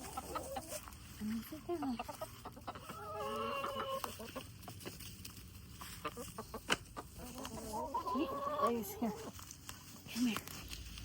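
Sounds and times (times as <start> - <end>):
hens clucking: 0.0 - 10.1.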